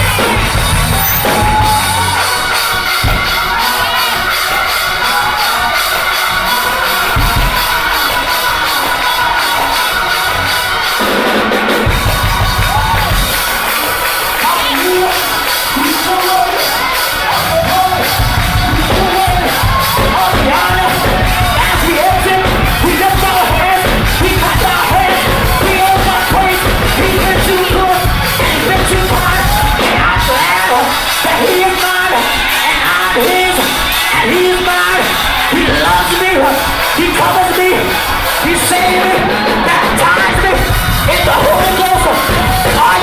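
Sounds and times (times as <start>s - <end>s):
heavy bass and drums: 0.0s - 43.0s.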